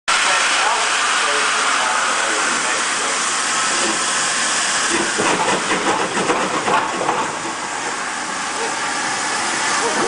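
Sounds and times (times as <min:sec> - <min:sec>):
steam hissing loudly: 0:00.1 - 0:10.0
steam locomotive exhaust beats: 0:00.1 - 0:10.0.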